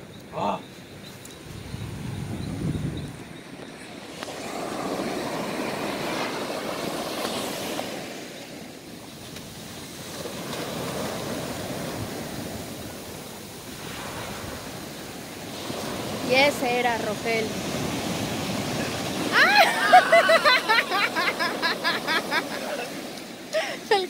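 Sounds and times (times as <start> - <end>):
waves washing up beach: 1.3 - 24.0.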